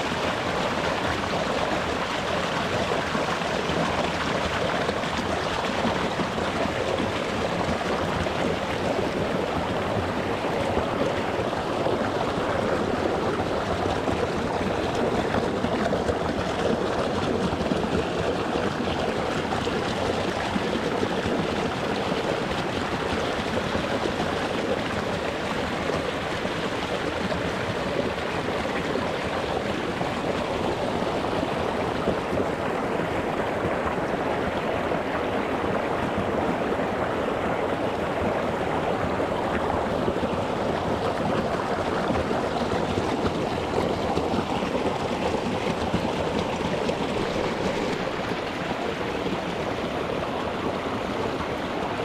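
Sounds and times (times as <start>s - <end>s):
stream flowing over stones: 0.0s - 52.0s.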